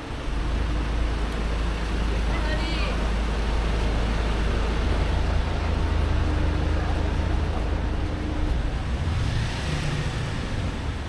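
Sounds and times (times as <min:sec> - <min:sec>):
street noise: 0:00.0 - 0:11.0
vehicle engines rumbling: 0:00.0 - 0:11.0.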